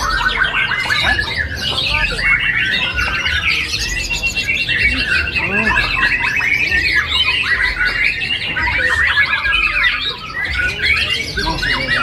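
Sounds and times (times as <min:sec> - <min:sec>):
songbirds chorus: 0:00.0 - 0:12.0.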